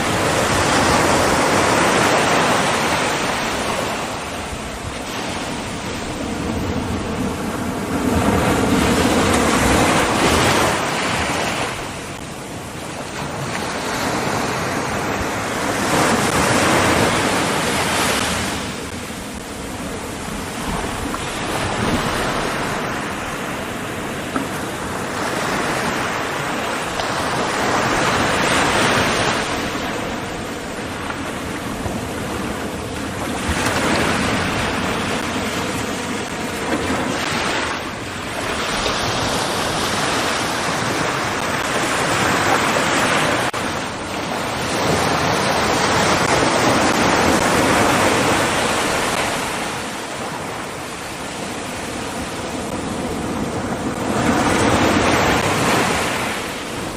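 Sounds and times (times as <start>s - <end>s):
waves breaking: 0.0s - 56.9s.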